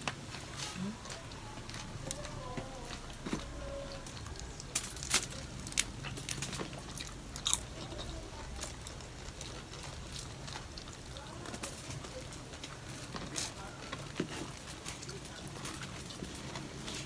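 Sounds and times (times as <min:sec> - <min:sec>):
person chewing and crunching food: 0:00.0 - 0:17.0.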